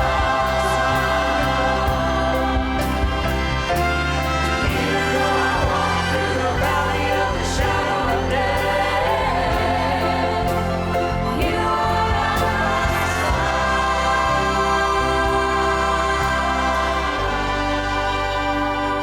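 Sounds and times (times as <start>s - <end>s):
church choir singing: 0.0s - 19.0s
orchestra accompaniment: 0.0s - 19.0s.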